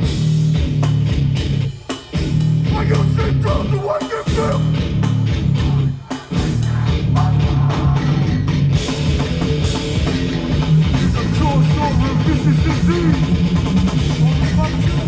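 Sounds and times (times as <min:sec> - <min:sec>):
hardcore band playing live: 0:00.0 - 0:15.0.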